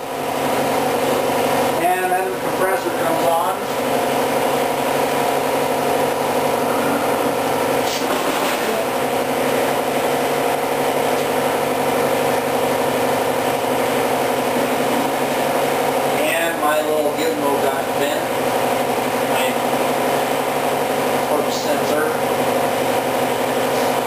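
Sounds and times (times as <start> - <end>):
air compressor humming: 0.0 - 24.0.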